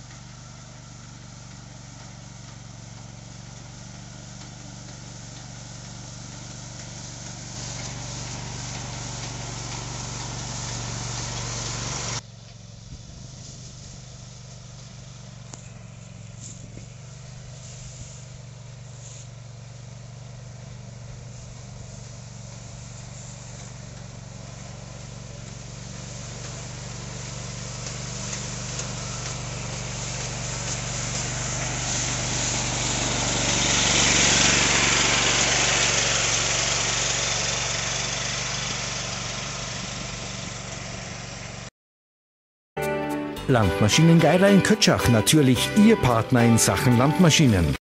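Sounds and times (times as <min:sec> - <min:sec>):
small engine running under load: 0:00.0 - 0:41.7.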